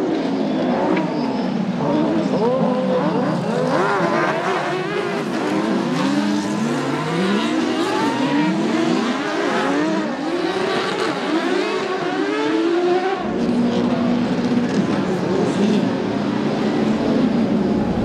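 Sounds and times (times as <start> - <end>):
racing engines revving: 0.0 - 18.0.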